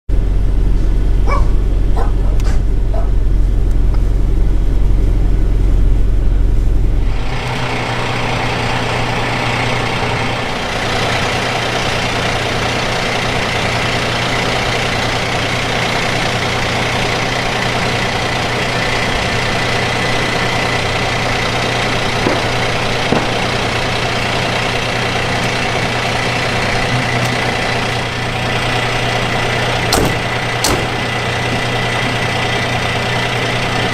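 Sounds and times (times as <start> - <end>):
diesel engine rumble: 0.1 - 33.9
low hum: 0.1 - 33.9.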